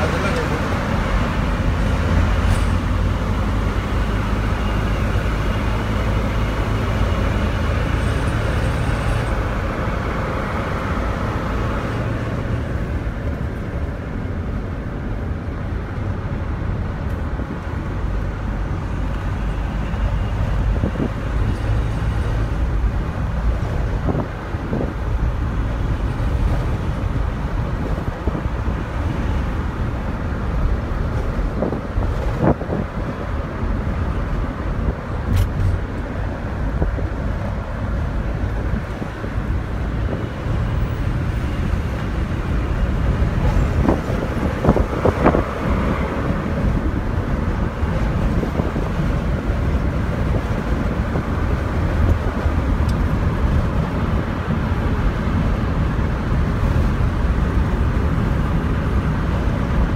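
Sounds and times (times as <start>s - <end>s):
engine and tyre rumble: 0.0s - 59.9s
surrounding traffic: 0.0s - 59.9s.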